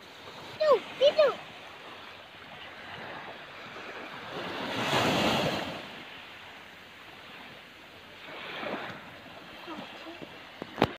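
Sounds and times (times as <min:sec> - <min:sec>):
waves breaking on a beach: 0:00.0 - 0:10.9.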